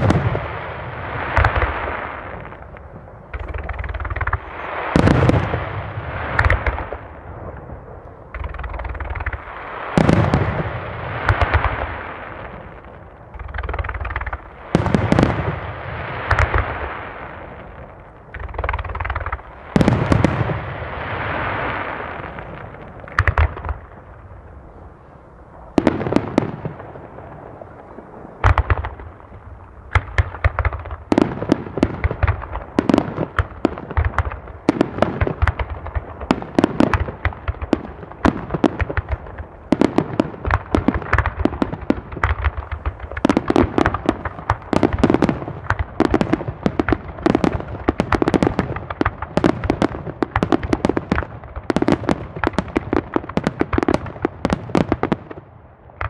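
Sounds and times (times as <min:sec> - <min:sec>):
fireworks bangs: 0:00.0 - 0:24.3, 0:25.6 - 0:56.0.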